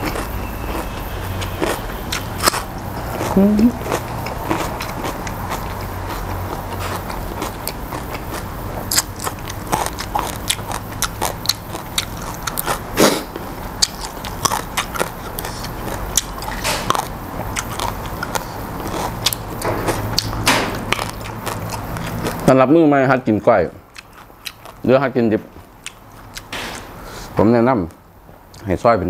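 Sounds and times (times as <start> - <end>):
close chewing with crunches: 0.0 - 22.5, 23.9 - 24.9, 25.6 - 26.5.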